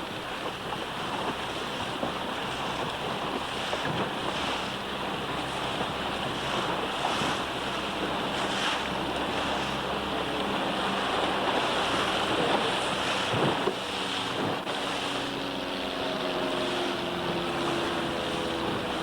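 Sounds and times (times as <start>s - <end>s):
water rushing past boat: 0.0s - 19.0s
waves splashing: 0.0s - 19.0s
wind buffeting microphone: 0.0s - 19.0s.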